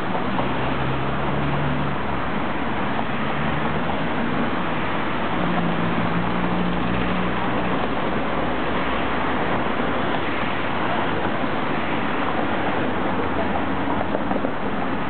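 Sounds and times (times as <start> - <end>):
low engine hum: 0.0 - 15.0
road traffic rushing: 0.0 - 15.0.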